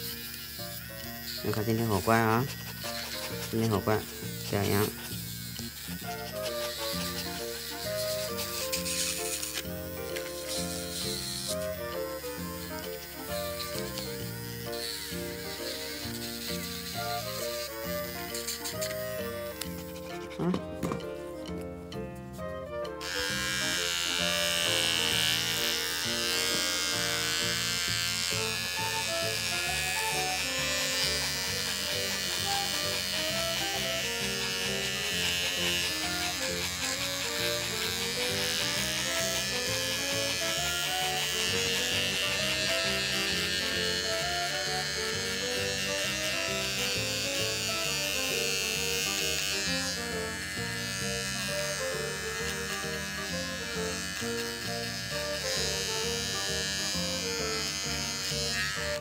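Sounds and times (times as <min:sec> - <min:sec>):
background music with melody: 0:00.0 - 0:59.0
grooming tool motor whine: 0:00.0 - 0:59.0.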